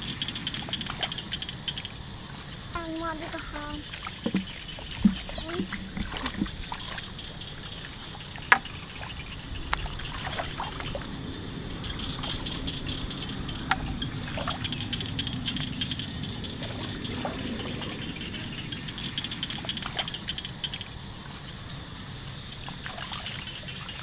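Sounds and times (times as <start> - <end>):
sharp water splashes: 0.0 - 21.6, 22.5 - 24.0
water trickling and sloshing: 0.0 - 24.0.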